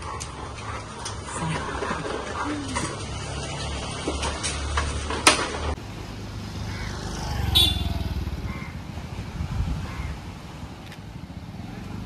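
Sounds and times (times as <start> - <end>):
van engine approaching: 0.0 - 10.0
scooter engine passing by: 0.1 - 10.3.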